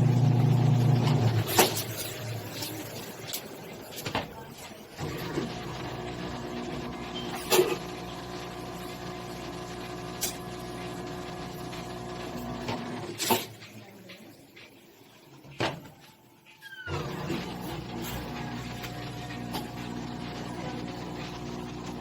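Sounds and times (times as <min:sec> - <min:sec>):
washing machine motor hum: 0:00.0 - 0:14.5, 0:15.3 - 0:22.0.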